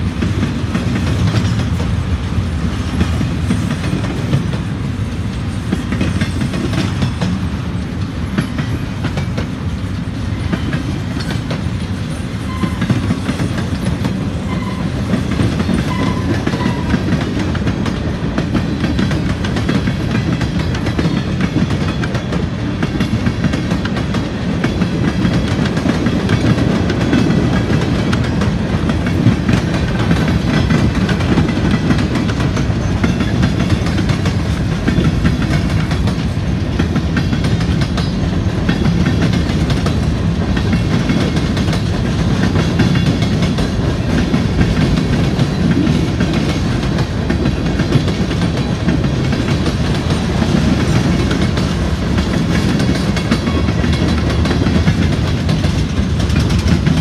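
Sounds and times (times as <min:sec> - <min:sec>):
train wheels clacking over rail joints: 0:00.0 - 0:57.0.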